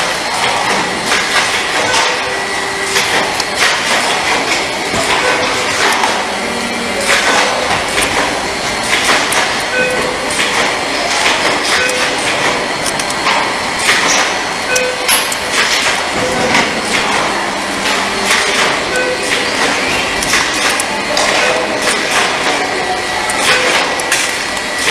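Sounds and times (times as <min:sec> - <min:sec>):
machinery clattering: 0:00.0 - 0:24.9.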